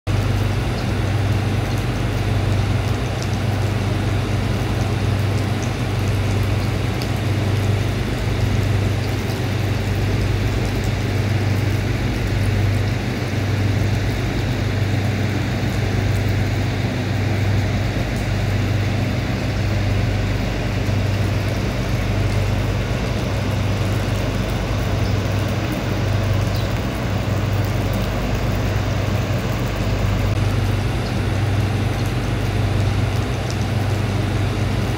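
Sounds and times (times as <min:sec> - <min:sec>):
continuous low hum: 0:00.1 - 0:34.9.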